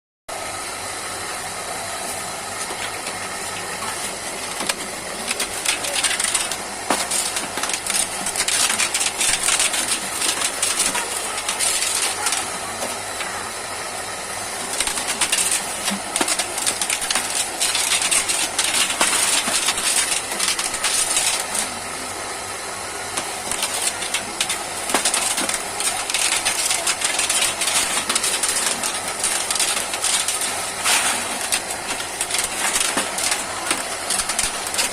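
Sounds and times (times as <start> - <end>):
metallic crackling and clicking: 2.6 - 13.4, 14.5 - 21.7, 23.1 - 34.9.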